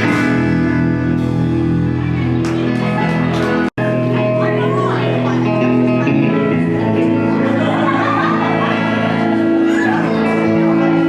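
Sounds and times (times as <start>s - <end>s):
live band playing music: 0.0s - 11.0s.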